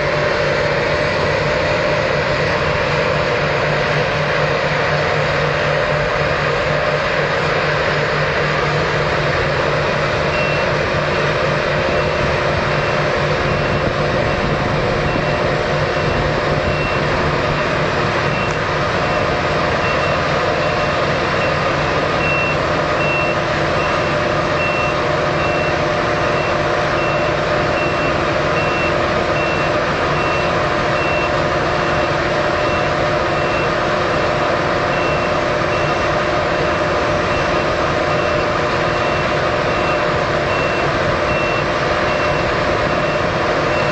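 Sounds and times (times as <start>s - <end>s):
combine harvester droning: 0.0s - 43.9s
reversing alarm beeping: 0.0s - 43.9s.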